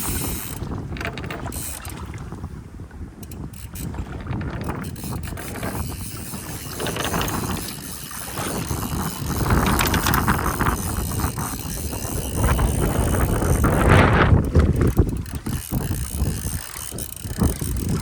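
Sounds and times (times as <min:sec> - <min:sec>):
fishing reel ratchet ticking: 0:00.0 - 0:02.0, 0:03.2 - 0:18.0
wind buffeting microphone: 0:00.0 - 0:18.0.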